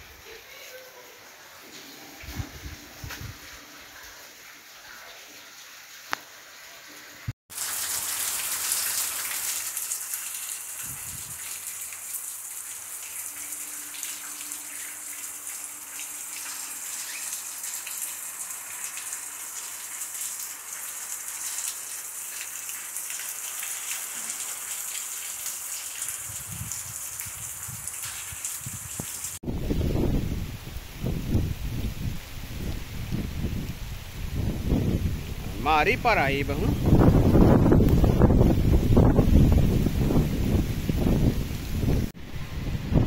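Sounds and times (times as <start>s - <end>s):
water running from gutter pipe: 0.0s - 30.2s, 31.0s - 42.2s
rain pattering: 0.2s - 42.1s.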